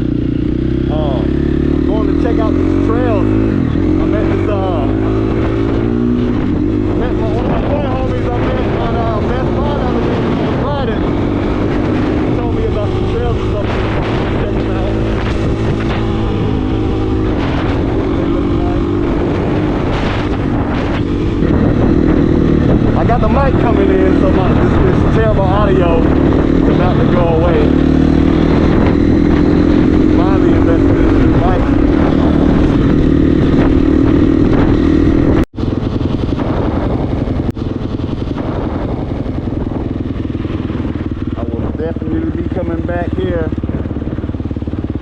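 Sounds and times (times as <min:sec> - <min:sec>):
dirt bike engine running: 0:00.0 - 0:45.0
wind buffeting microphone: 0:00.0 - 0:45.0.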